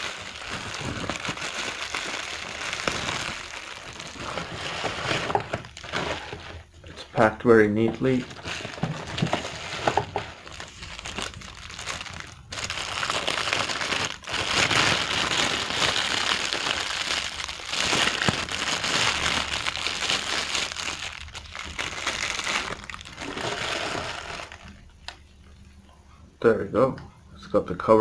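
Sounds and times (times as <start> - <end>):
plastic bag crinkling: 0.0 - 25.7.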